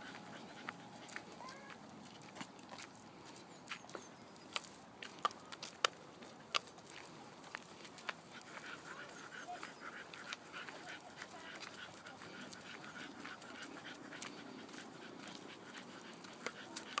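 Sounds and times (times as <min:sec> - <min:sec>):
dogs panting: 0:00.0 - 0:17.0
steps on paved path: 0:00.0 - 0:17.0.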